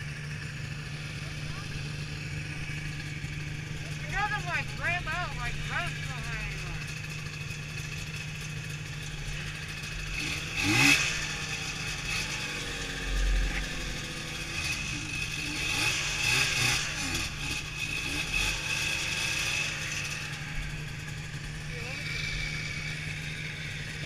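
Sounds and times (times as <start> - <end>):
snowmobile engine idling and revving: 0.0 - 24.0.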